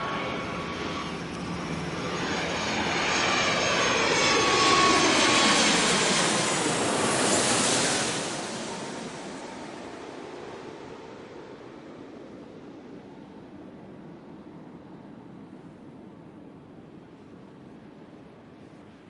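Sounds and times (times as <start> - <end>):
airplane engine roar and whine: 0.0 - 19.0.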